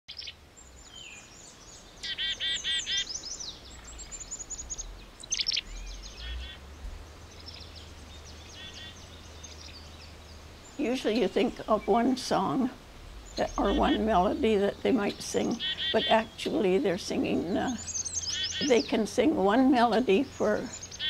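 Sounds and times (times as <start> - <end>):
songbirds singing: 0.1 - 21.0.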